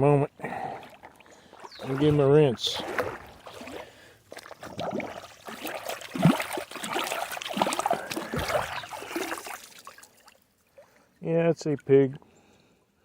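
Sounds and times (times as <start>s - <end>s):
water splashing and trickling: 0.0s - 12.2s.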